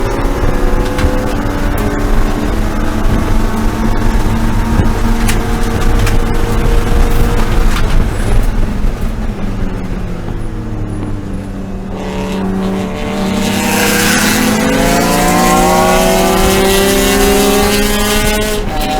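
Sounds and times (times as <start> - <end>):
race car engine accelerating: 0.0 - 18.9.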